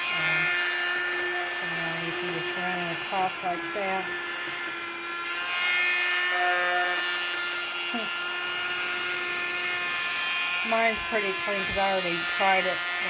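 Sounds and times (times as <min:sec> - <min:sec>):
small vacuum motor whining: 0:00.0 - 0:13.0.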